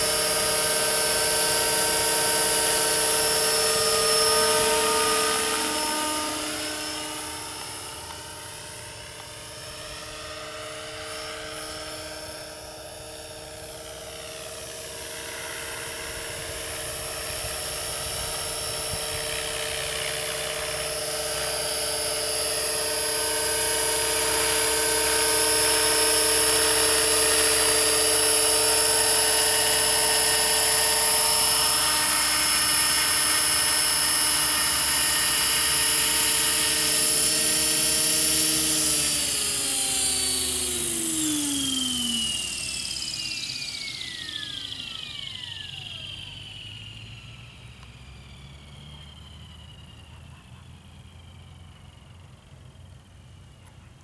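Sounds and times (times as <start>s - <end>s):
model helicopter rotors whining: 0.0s - 54.0s.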